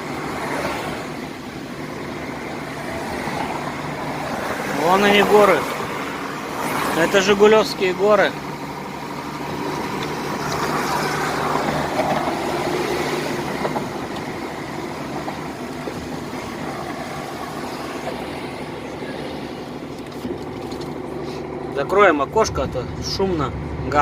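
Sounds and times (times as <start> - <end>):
diesel engine humming: 0.0 - 24.0
wind and road noise: 0.0 - 24.0.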